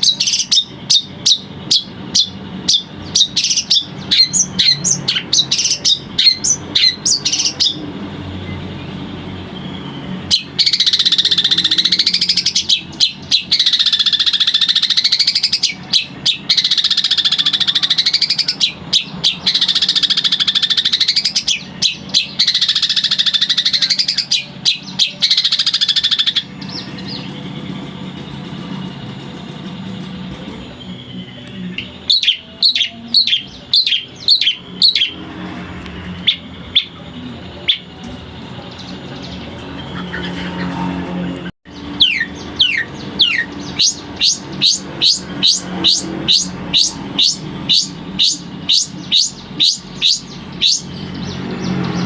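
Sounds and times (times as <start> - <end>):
shrike buzzy swooping song: 0.0 - 52.0.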